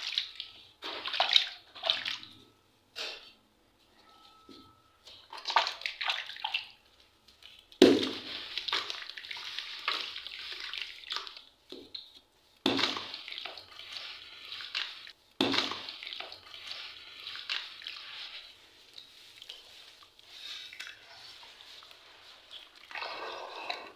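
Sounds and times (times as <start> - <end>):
water sloshing and splashing: 0.0 - 2.6, 5.2 - 23.9.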